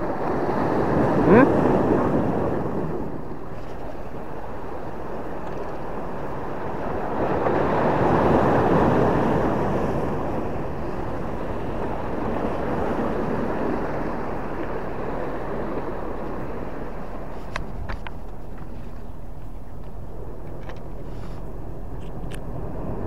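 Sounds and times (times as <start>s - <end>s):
waves rushing against rocks: 0.0s - 23.0s
wind on microphone: 0.0s - 23.0s.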